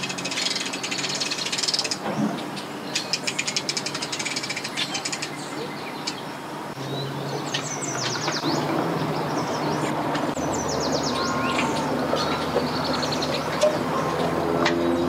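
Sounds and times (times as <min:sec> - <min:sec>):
birds chirping: 0:00.0 - 0:15.0
low engine hum: 0:00.0 - 0:15.0.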